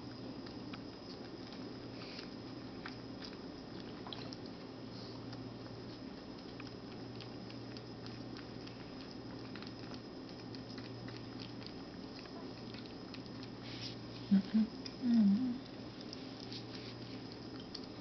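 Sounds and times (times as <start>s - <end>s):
kittens chewing: 0.0s - 18.0s
steady low hum: 0.0s - 18.0s.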